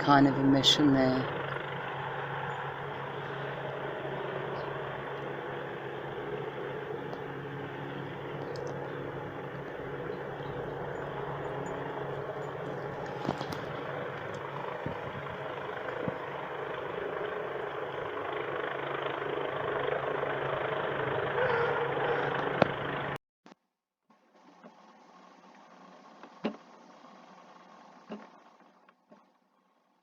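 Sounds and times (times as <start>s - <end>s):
engine drone: 0.0s - 23.2s, 24.1s - 30.0s.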